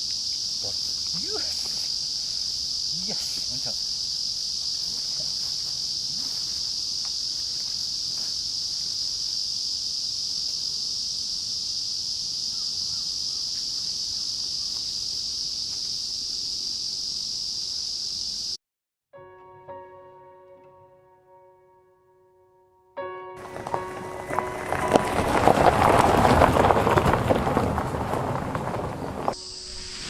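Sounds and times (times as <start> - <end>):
insects droning: 0.0 - 18.6, 23.4 - 30.0.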